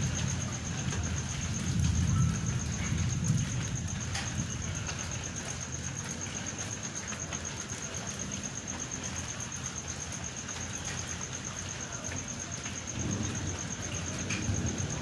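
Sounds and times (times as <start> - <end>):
low continuous thunder rumble: 0.0 - 15.0
steady rain: 0.0 - 15.0.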